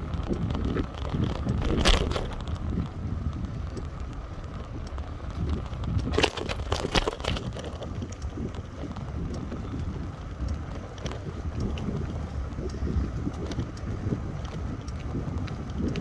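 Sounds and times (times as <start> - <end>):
sharp crackling clicks: 0.0 - 16.0
wind rumbling on microphone: 0.0 - 16.0.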